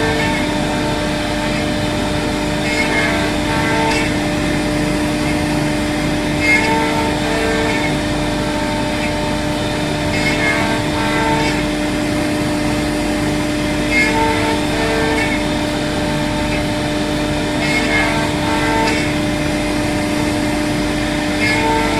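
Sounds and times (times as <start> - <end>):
axis motors changing tones: 0.0 - 21.9
router spindle whine: 0.0 - 21.9.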